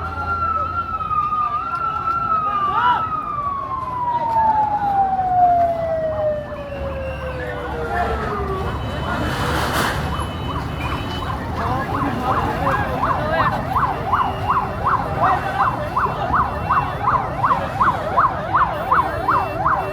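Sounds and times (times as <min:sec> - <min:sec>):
siren in fast yelp mode: 0:00.0 - 0:09.2, 0:10.1 - 0:19.9.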